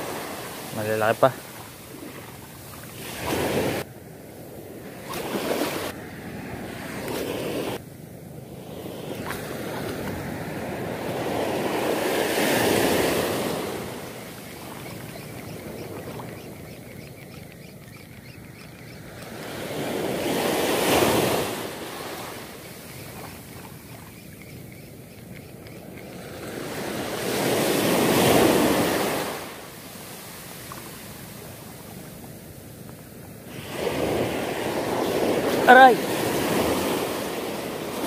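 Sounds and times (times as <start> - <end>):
surf washing on sandy beach: 0.0 - 7.8, 8.4 - 16.4, 19.0 - 24.1, 26.1 - 38.0.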